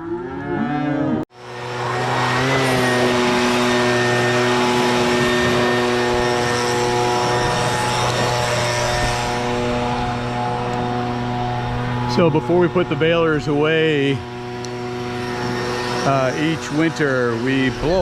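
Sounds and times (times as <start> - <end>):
engine-driven blower running: 0.0 - 18.0.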